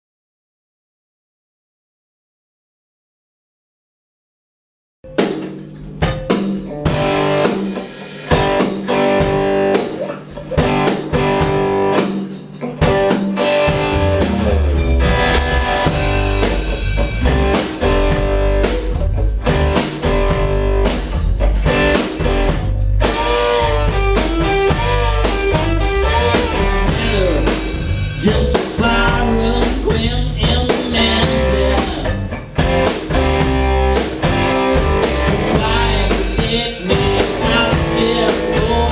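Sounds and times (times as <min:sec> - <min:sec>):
blues-rock band music: 0:05.1 - 0:38.9.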